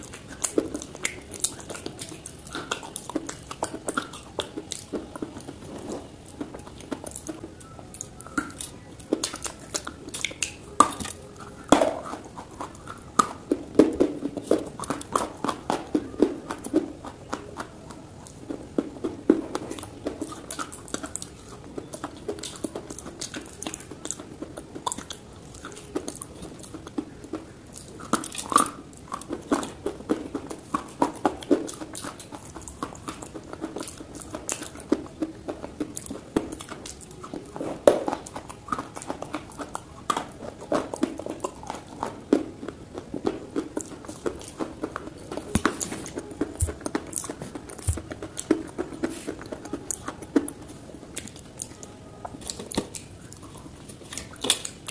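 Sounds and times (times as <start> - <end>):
crunchy clay chewing: 0.0 - 54.9.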